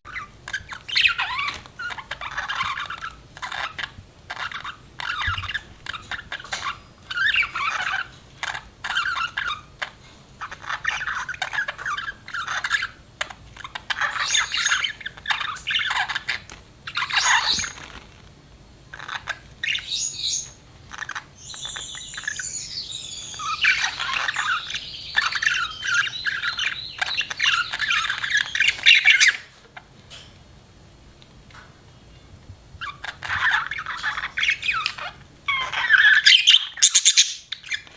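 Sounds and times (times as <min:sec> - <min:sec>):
budgerigar chirping and warbling: 0:00.1 - 0:17.8, 0:18.9 - 0:29.5, 0:32.8 - 0:37.9.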